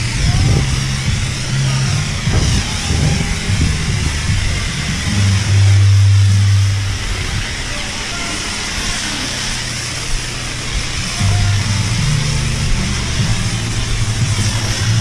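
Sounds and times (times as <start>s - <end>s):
low steady hum: 0.0s - 15.0s
pressure washer spraying water: 0.0s - 15.0s.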